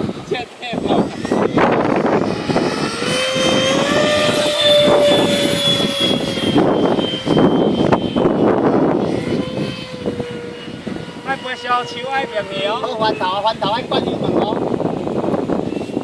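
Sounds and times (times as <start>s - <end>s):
electric model jet motor whining: 0.0s - 16.0s
loud rushing noise: 0.8s - 16.0s.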